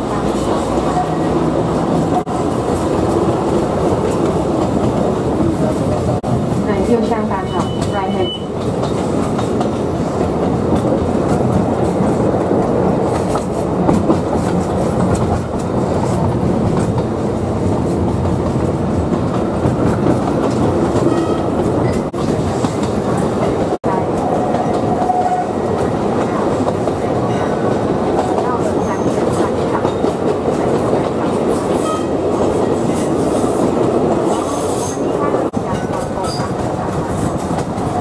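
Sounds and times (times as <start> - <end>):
clickety-clack of rail joints: 0.0 - 38.0
train wheels rumbling on rails: 0.0 - 38.0.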